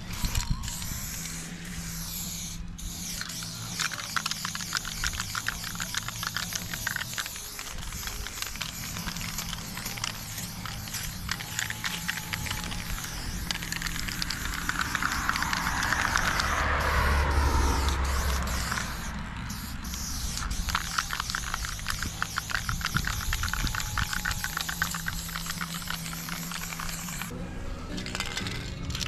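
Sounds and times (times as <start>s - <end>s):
spray paint can hissing: 0.0s - 27.3s, 27.9s - 29.0s.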